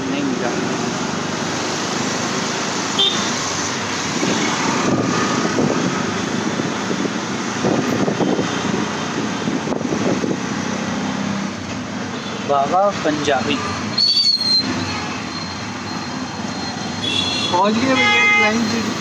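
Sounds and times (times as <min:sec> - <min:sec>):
auto-rickshaw engine: 0:00.0 - 0:19.0
surrounding traffic: 0:00.0 - 0:19.0.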